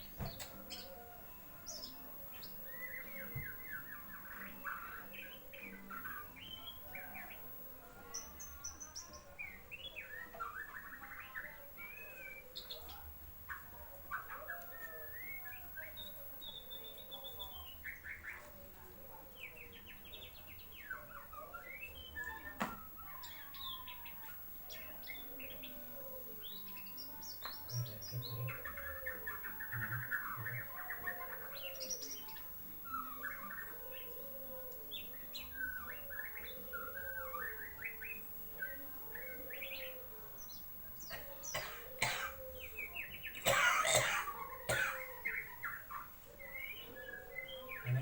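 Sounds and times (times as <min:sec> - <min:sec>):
songbird chirping and warbling: 0:00.0 - 0:48.0.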